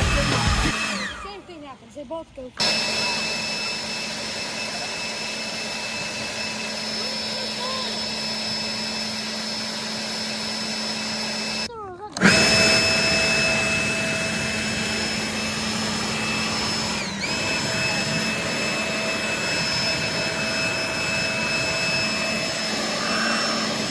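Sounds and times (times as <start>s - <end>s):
motor whining: 0.0s - 23.9s.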